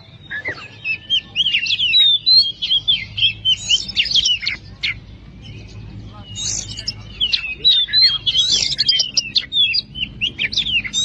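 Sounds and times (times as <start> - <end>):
bird singing whistles and chirps: 0.0 - 11.0.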